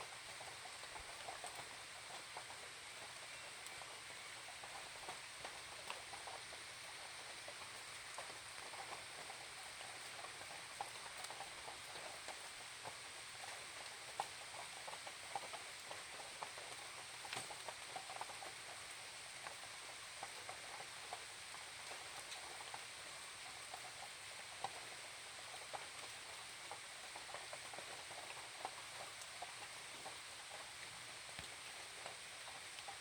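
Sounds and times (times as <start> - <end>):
faint high-pitched hiss: 0.0 - 33.0
rain drops tapping on leaves: 0.0 - 33.0
soft rain hiss: 0.0 - 33.0.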